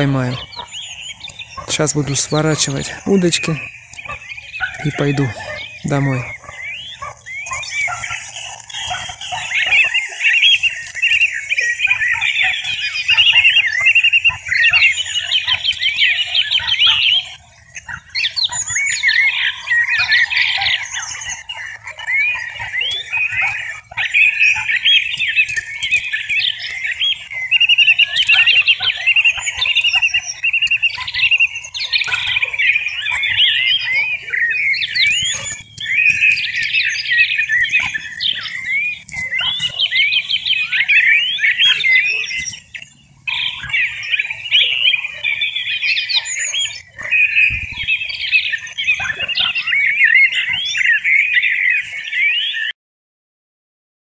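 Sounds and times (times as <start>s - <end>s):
finch singing: 0.0s - 52.7s.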